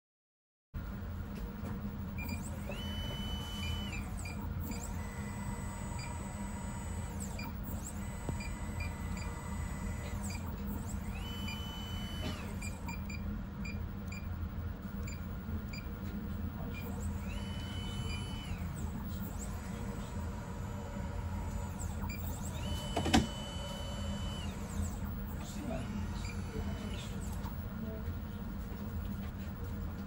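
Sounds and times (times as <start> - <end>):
stepper motor whine: 2.0 - 15.9, 16.6 - 27.3.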